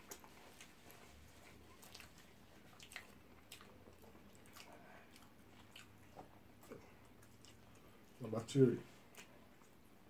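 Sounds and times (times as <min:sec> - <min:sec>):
faint chewing sounds: 0:00.0 - 0:10.0.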